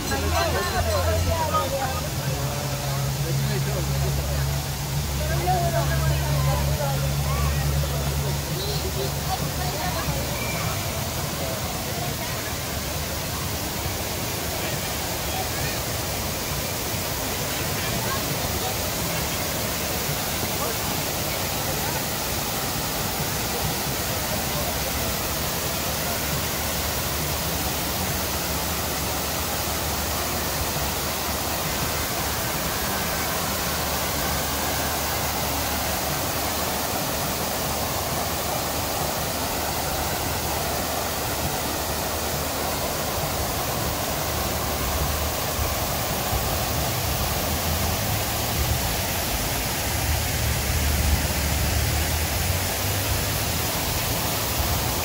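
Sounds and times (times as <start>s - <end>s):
fountain water rushing and splashing: 0.0s - 55.0s.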